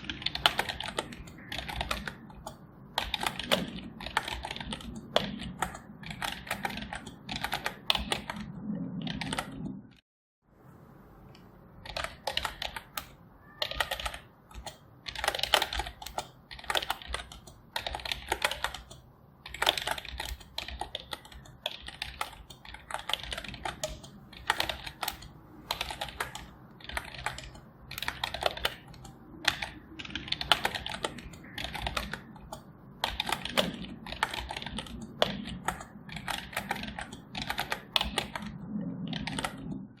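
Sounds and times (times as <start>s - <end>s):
typing on computer keyboard: 0.0s - 9.8s, 11.8s - 39.9s.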